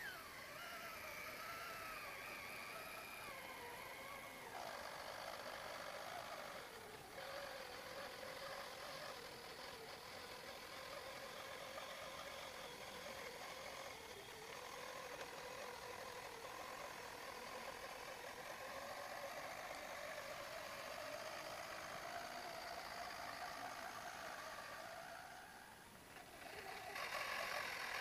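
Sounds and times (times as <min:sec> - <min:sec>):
electric motor and gearbox whining: 0:00.0 - 0:28.0.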